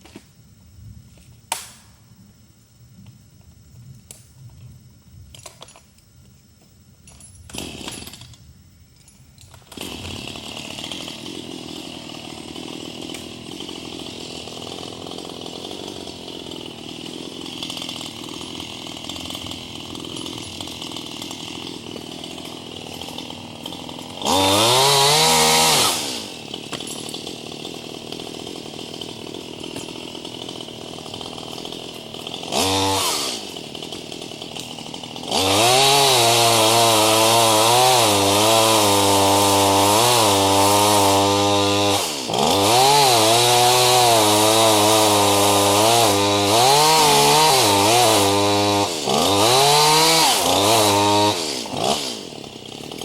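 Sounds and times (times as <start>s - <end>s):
chainsaw running and revving: 7.5s - 8.2s, 9.7s - 53.0s.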